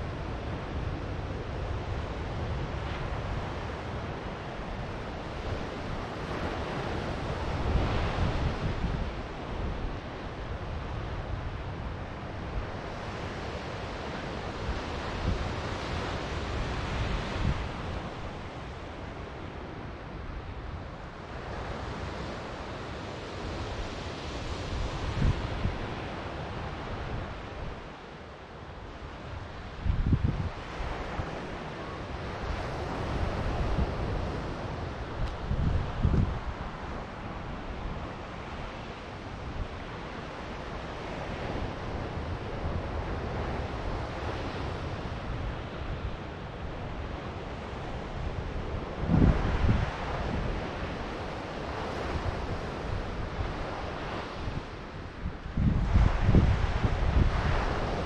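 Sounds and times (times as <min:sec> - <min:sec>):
ocean surf washing onto beach: 0:00.0 - 0:58.0
wind rumble on microphone: 0:00.0 - 0:58.0.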